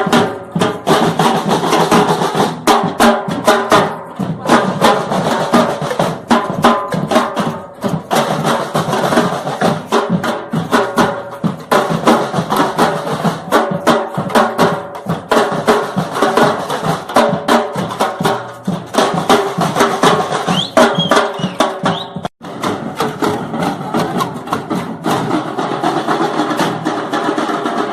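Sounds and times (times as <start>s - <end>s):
percussion band drumming: 0.0s - 27.9s.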